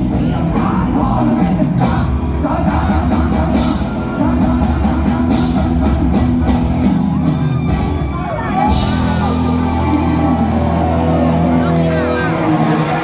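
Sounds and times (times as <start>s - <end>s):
live band music: 0.0s - 13.0s
steady drum beat: 0.0s - 13.0s.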